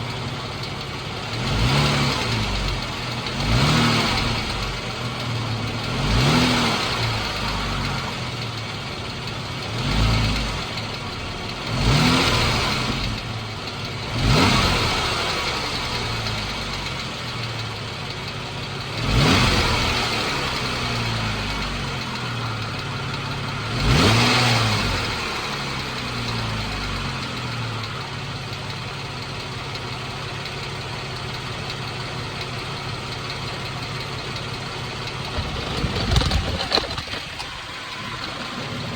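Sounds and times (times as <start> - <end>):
car engine idling and revving: 0.0 - 38.9
engine ticking: 0.0 - 38.9.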